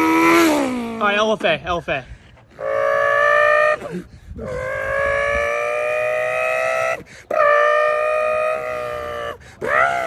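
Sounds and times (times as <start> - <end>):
man imitating engine revving: 0.0 - 1.2, 2.6 - 10.0.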